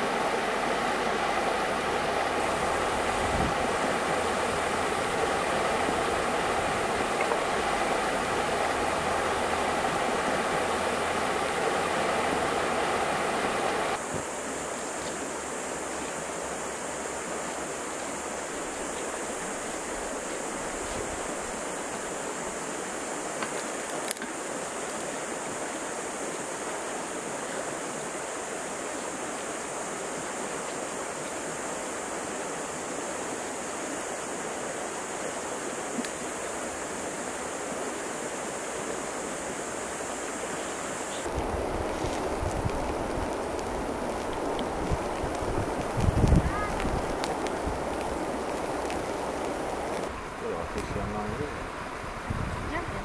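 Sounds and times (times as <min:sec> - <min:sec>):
high hiss: 0:00.0 - 0:53.0
rushing water noise: 0:00.0 - 0:53.0.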